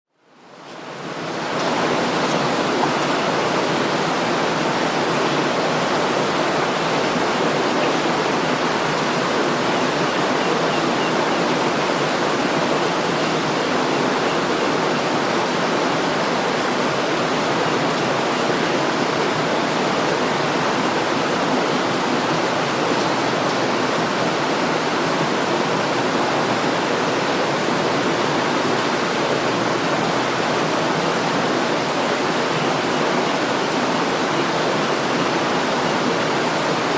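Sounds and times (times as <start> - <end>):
river water flowing: 0.2 - 36.9.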